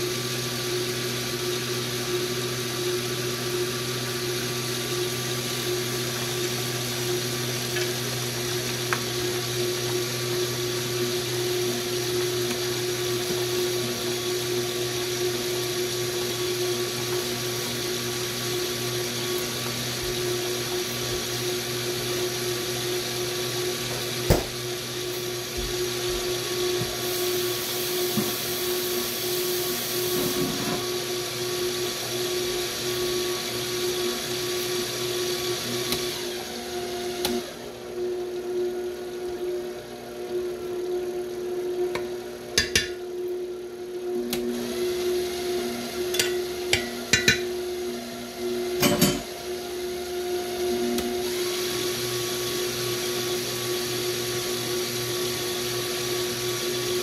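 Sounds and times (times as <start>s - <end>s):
cooker stirring motor humming: 0.0s - 57.0s.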